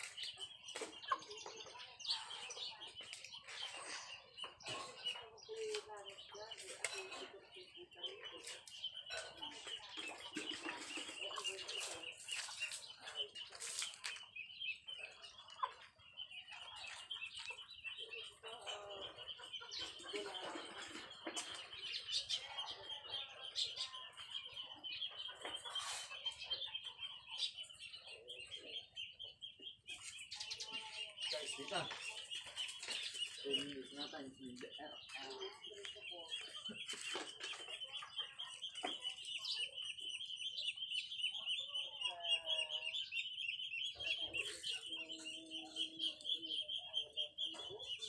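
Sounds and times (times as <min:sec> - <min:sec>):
chickens clucking: 0:00.0 - 0:48.0.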